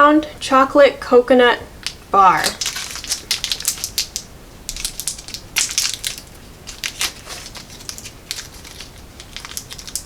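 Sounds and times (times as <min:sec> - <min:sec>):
plastic wrapper crinkling: 0:01.8 - 0:10.0.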